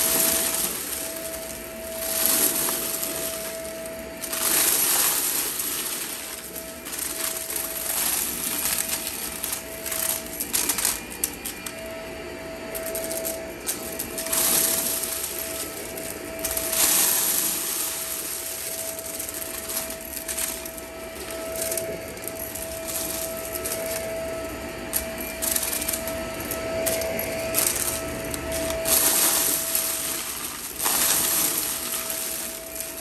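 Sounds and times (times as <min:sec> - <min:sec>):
debris crackling through vacuum: 0:00.0 - 0:33.0
vacuum cleaner whine: 0:00.0 - 0:33.0.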